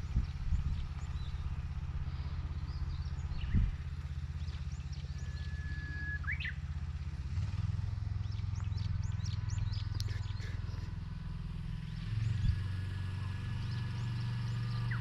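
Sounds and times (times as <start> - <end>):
small engine running: 0.0 - 15.0
birds chirping: 0.1 - 6.6, 8.1 - 15.0.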